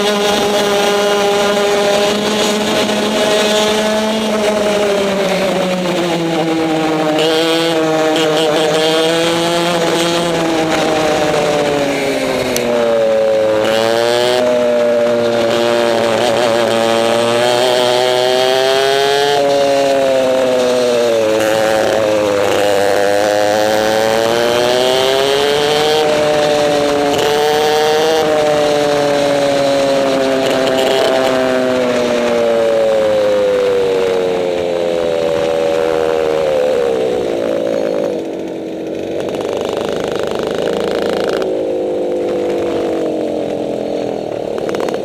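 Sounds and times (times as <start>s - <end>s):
kart engine revving: 0.0s - 45.0s.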